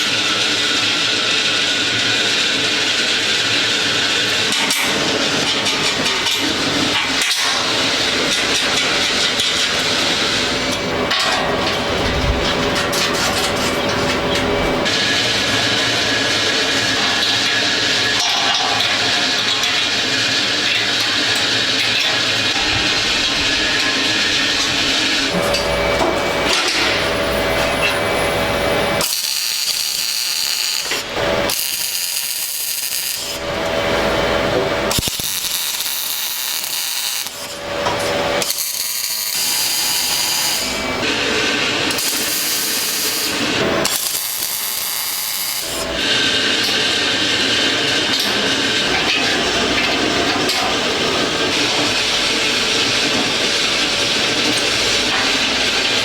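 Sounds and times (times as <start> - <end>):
shop noise: 0.0 - 56.0.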